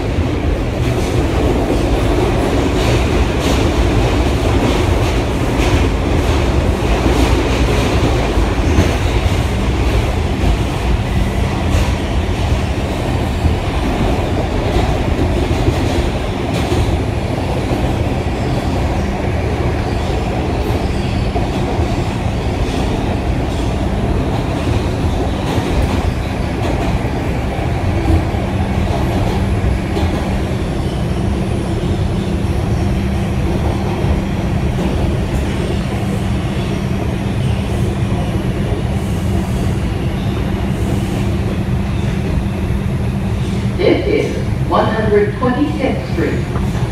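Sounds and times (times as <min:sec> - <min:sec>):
subway wheels rumbling on rails: 0:00.0 - 0:46.9.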